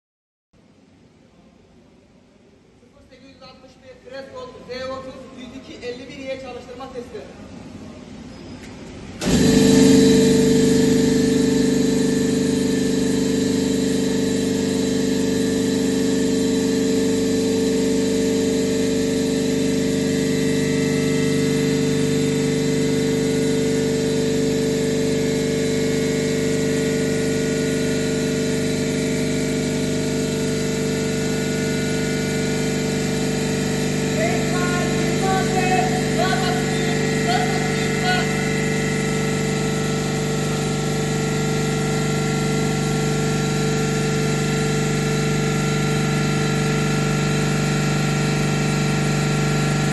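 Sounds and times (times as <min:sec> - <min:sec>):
refrigeration compressor humming: 0:00.7 - 0:49.9.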